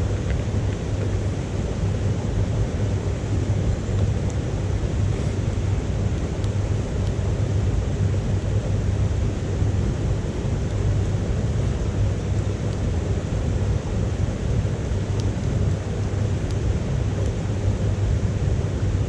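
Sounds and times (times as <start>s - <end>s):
stove fire low rumble: 0.0s - 19.0s
wood fire crackling: 0.0s - 19.0s.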